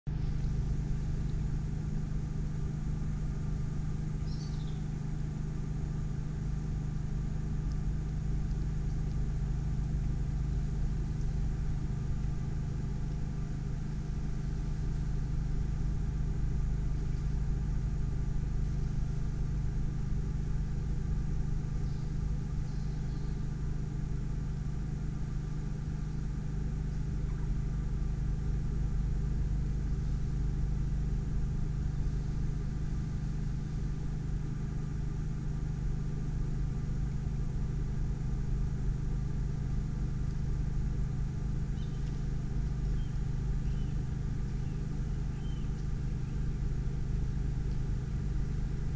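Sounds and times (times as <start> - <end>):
constant hum: 0.1 - 48.9.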